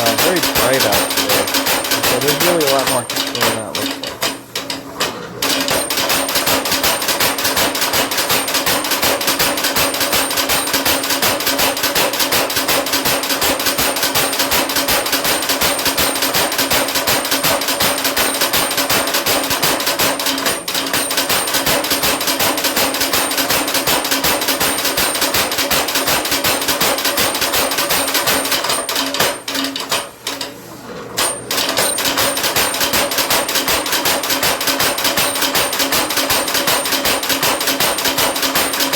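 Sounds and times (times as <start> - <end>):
power hammer striking metal: 0.0 - 30.1, 31.2 - 38.9.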